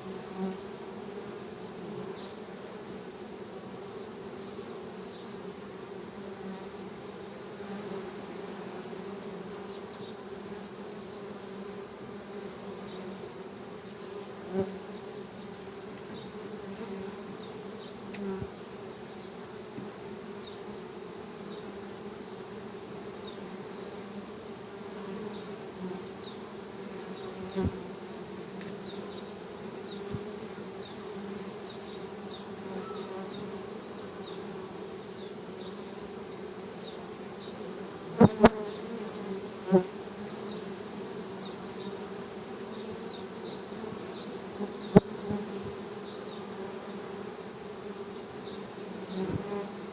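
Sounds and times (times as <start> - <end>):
honey bees buzzing: 0.0 - 49.9.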